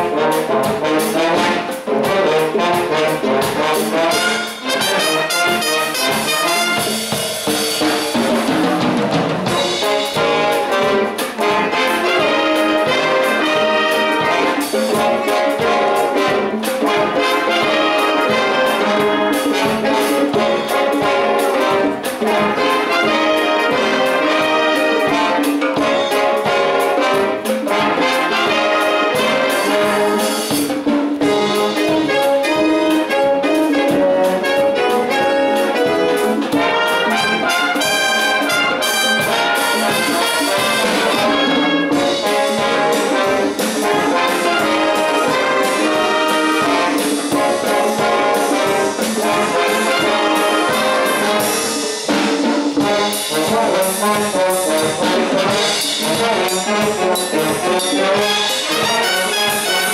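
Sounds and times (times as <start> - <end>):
wind band playing dance music: 0.0 - 59.9.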